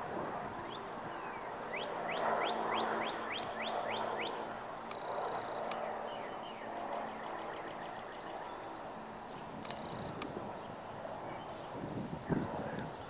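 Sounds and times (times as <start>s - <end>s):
low steady background hum: 0.0s - 13.0s
songbird singing: 0.6s - 13.0s.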